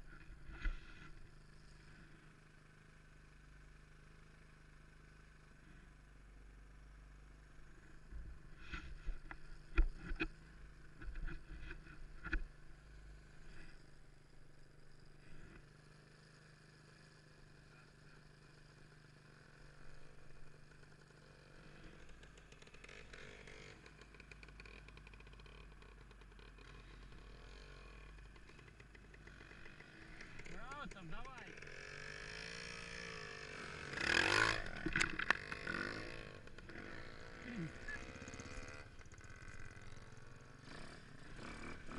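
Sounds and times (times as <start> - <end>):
faint motorcycle engine running: 0.0 - 41.9.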